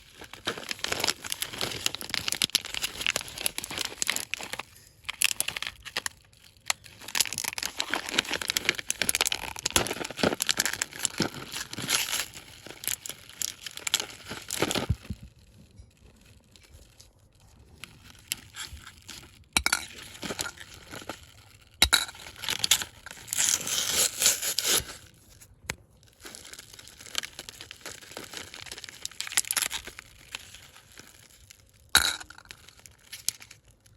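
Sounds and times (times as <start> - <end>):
plastic wrappers crinkling: 0.0 - 33.9.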